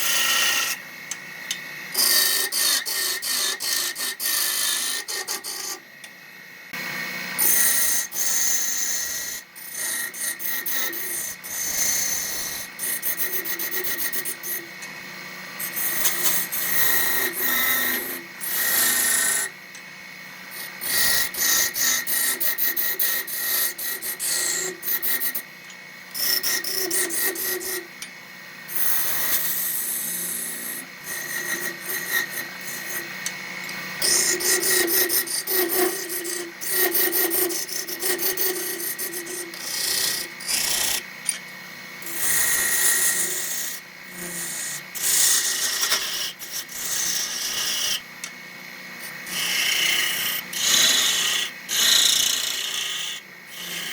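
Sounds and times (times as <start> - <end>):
lathe tool rasping on wood: 0.0 - 0.8, 1.9 - 5.8, 7.4 - 14.7, 15.4 - 19.6, 20.5 - 25.5, 26.1 - 27.9, 28.7 - 33.3, 34.0 - 41.1, 42.0 - 48.0, 49.0 - 53.9
lathe hum: 0.0 - 53.9.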